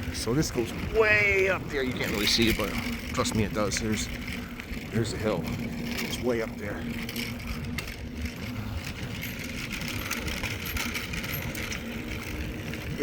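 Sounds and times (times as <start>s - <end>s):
bike tyre noise: 0.0s - 13.0s.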